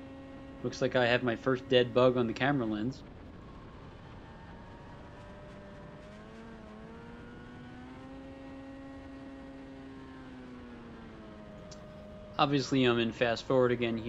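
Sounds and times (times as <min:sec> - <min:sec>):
two-stroke race car engine: 0:00.0 - 0:03.0, 0:05.1 - 0:14.0.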